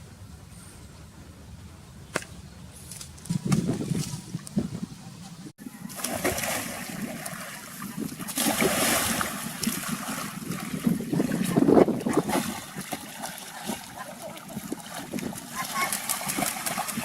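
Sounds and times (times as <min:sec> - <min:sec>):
water splashing and sloshing: 0:02.9 - 0:17.0.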